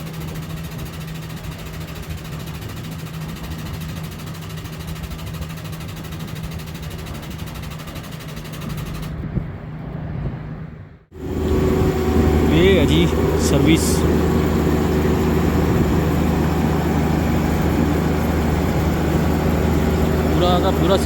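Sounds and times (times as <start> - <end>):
engine running with hiss: 0.0 - 9.2, 11.1 - 21.0.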